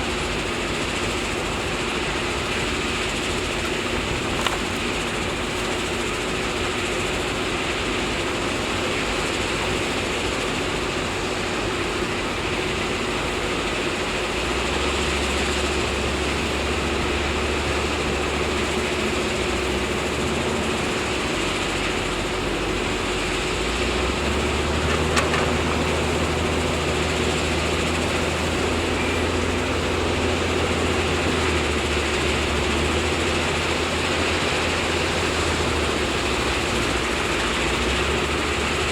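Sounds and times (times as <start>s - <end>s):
constant whine: 0.0s - 38.9s
diesel machinery engine running: 0.0s - 38.9s.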